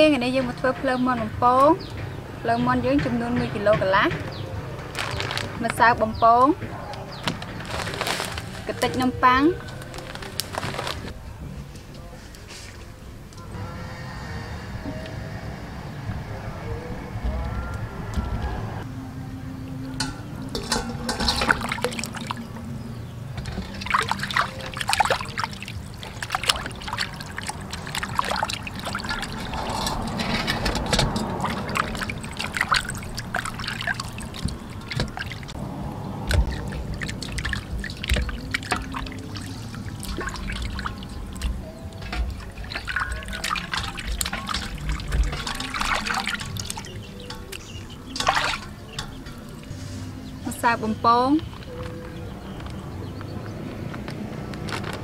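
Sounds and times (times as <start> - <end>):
water splashing and trickling: 0.0 - 11.2, 19.8 - 55.0.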